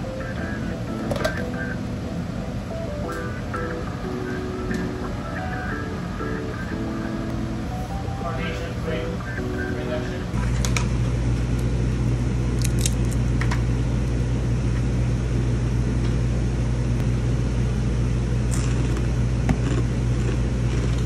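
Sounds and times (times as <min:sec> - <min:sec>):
deep hum: 0:00.0 - 0:21.0
kitchen ventilation drone: 0:00.0 - 0:21.0.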